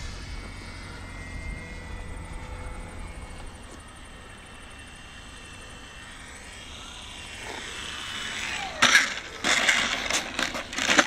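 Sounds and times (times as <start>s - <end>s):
model plane motor whining: 0.0s - 11.0s
plane scraping on asphalt: 0.0s - 11.0s.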